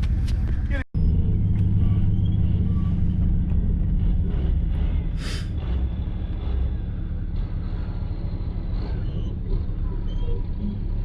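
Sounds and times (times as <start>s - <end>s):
pickup truck engine rumble: 0.0s - 11.0s.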